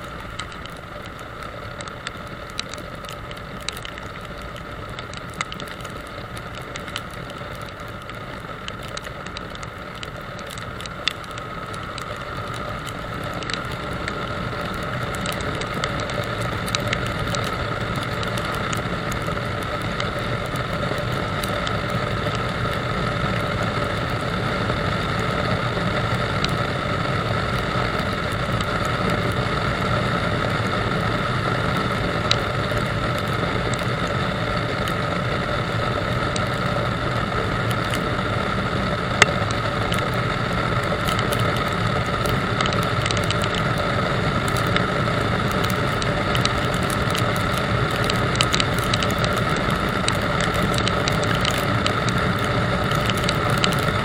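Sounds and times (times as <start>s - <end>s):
sharp ticks: 0.0s - 54.0s
wind and road noise: 0.0s - 54.0s.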